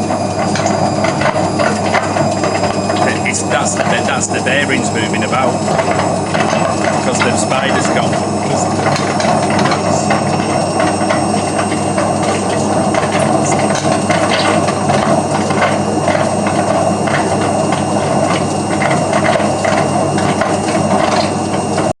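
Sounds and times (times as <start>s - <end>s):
drum knocking and rattling: 0.0s - 21.9s
washing machine spin rumble: 0.0s - 22.0s.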